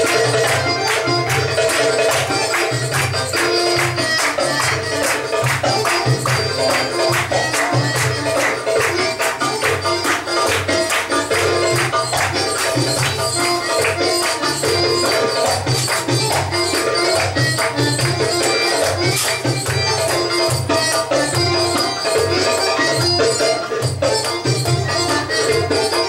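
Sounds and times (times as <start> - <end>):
belly dance music: 0.0 - 26.0
fast percussion rhythm: 0.0 - 26.0.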